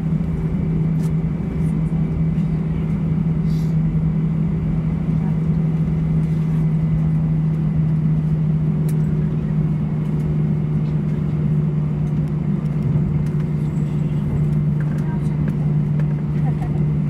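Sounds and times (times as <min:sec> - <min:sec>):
aircraft cabin hum: 0:00.0 - 0:17.0.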